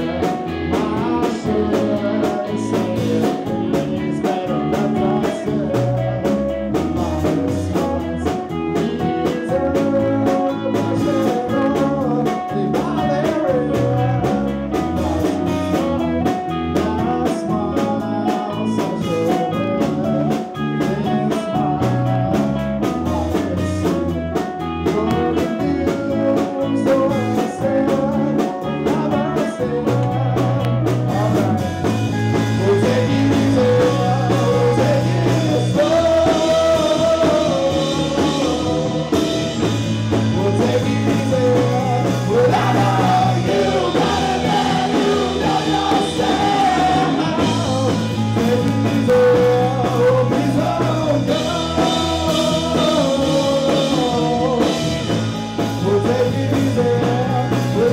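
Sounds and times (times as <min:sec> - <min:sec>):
live rock band playing: 0:00.0 - 0:57.9
person singing lead vocals: 0:00.0 - 0:57.9.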